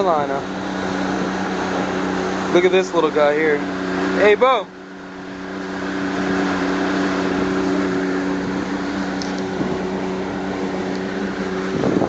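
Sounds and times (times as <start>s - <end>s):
boat motor running: 0.0s - 12.0s
rush of wind and water: 0.0s - 12.0s.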